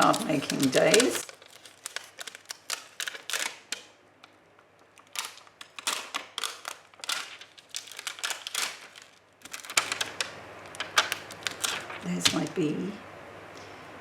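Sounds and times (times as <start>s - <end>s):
paper and plastic rustling: 0.0s - 12.8s.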